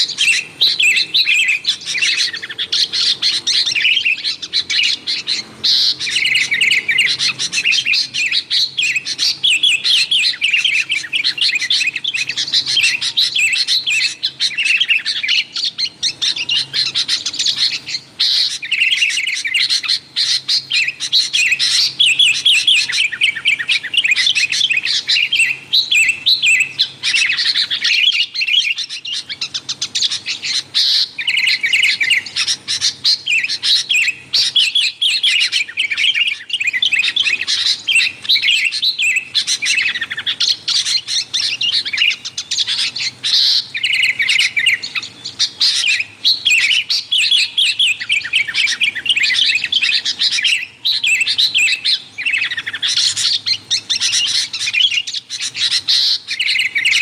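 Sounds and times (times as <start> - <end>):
bird chattering calls: 0.0 - 57.0.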